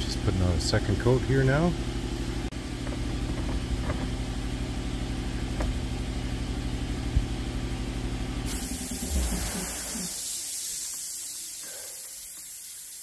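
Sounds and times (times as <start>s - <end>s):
engine idling: 0.0s - 12.7s.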